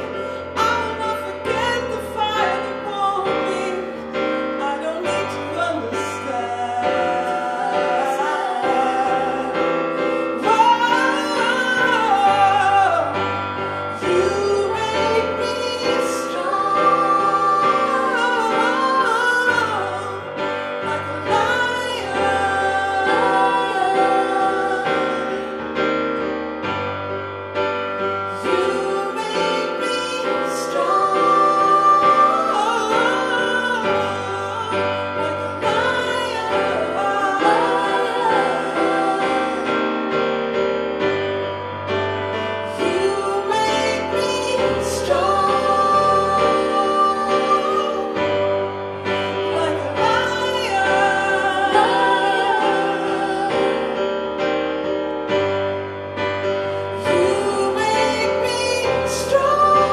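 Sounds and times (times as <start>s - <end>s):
woman singing: 0.0s - 25.7s, 28.4s - 40.0s, 42.8s - 48.6s, 49.2s - 54.1s, 57.0s - 59.9s.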